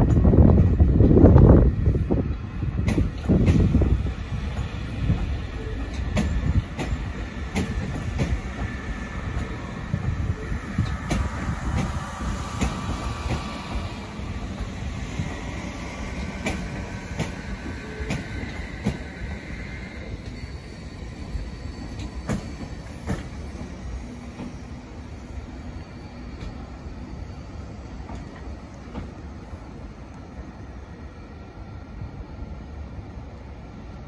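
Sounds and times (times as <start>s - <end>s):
train wheel rumble: 0.0s - 34.0s.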